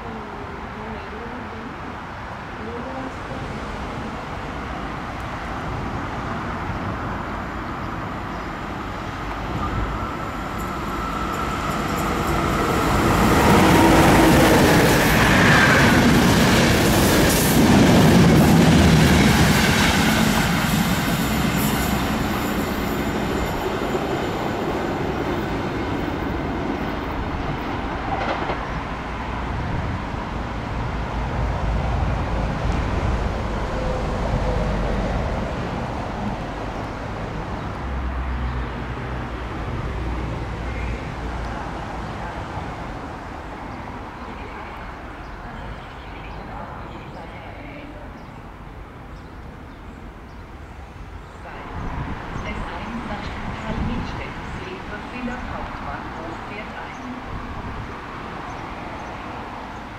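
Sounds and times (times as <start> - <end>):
train passing rumble: 0.0 - 59.9.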